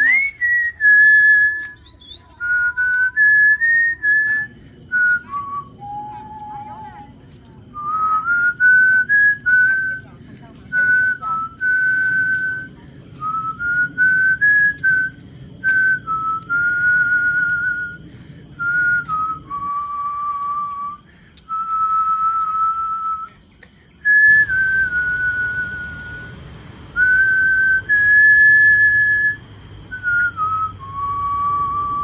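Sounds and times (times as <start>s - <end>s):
person whistling a tune: 0.0s - 10.1s, 10.7s - 23.4s, 24.0s - 32.0s.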